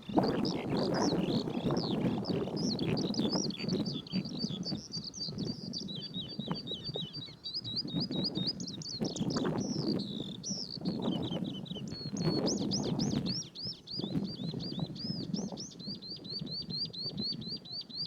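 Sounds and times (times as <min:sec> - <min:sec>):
skylark singing: 0:00.0 - 0:18.0.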